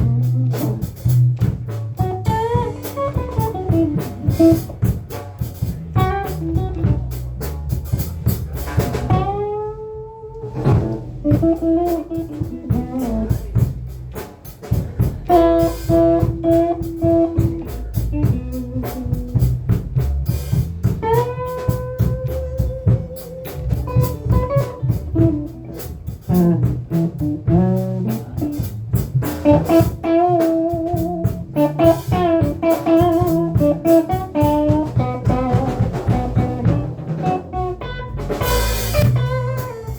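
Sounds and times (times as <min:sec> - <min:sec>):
blues guitar solo: 0:00.0 - 0:05.0, 0:05.6 - 0:07.4, 0:08.8 - 0:13.7, 0:15.2 - 0:19.8, 0:20.9 - 0:39.9
drums: 0:00.0 - 0:39.9
low rhythm section: 0:00.0 - 0:39.9.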